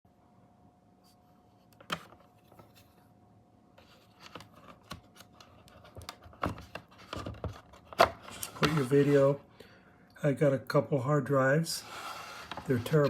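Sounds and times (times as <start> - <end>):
faint steady whine: 0.1 - 13.0.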